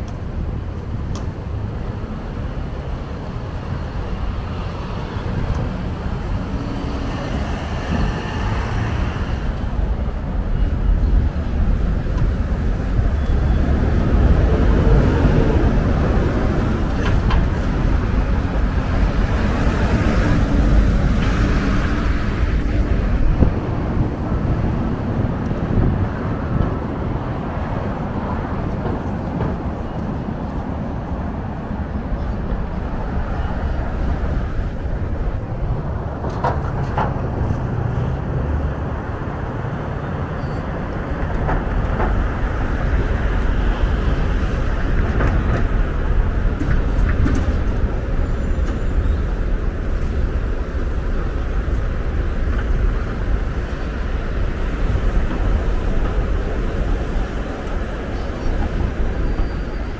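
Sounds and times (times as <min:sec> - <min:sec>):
rumble of passing vehicles: 0:00.0 - 0:59.9.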